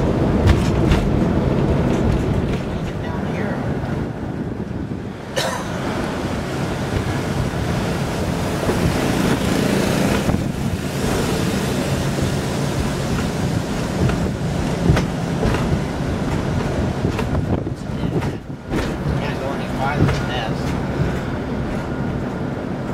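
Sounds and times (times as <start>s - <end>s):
car engine and road noise: 0.0s - 22.9s
wind noise on microphone: 0.0s - 22.9s.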